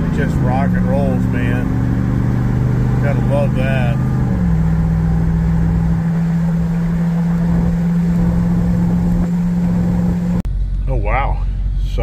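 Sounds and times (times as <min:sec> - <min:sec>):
engine droning inside car cab: 0:00.0 - 0:12.0
road and wind noise: 0:00.0 - 0:12.0.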